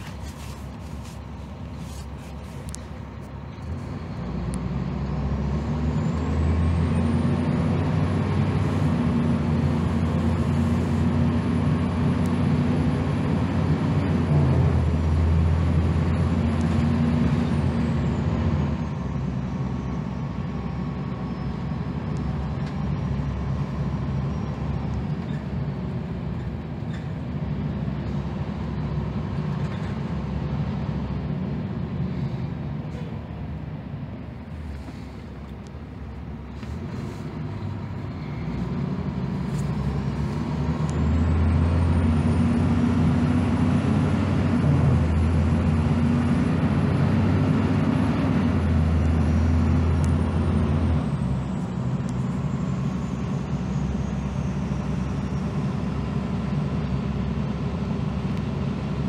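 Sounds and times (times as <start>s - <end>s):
bus diesel engine with high whine: 0.0s - 59.0s.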